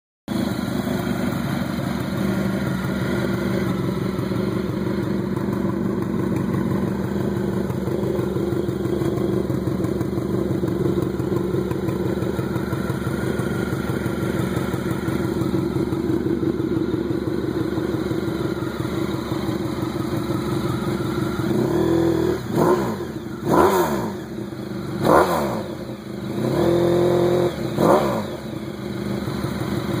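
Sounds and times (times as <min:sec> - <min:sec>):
motorcycle engine idling: 0:00.3 - 0:30.0
engine throttle blips: 0:00.4 - 0:30.0.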